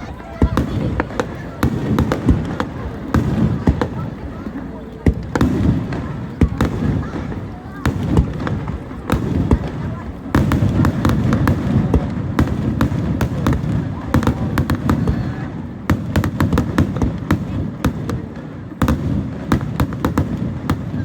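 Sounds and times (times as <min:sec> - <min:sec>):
firework booms: 0:00.0 - 0:21.0
firework crackles and pops: 0:00.0 - 0:21.0.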